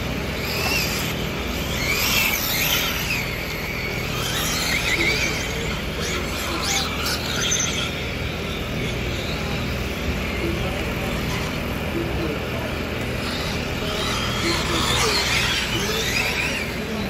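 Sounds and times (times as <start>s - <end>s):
electric motors whining: 0.0s - 17.0s
low outdoor rumble: 0.0s - 17.0s.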